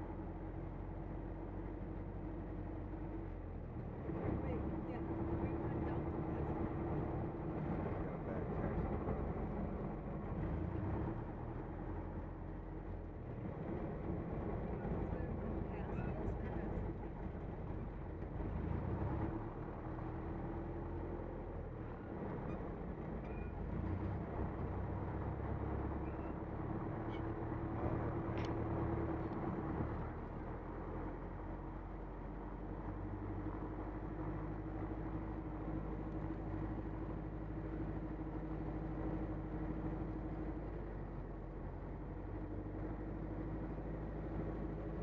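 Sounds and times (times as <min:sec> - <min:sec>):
light aircraft engine and propeller: 0:00.0 - 0:45.0.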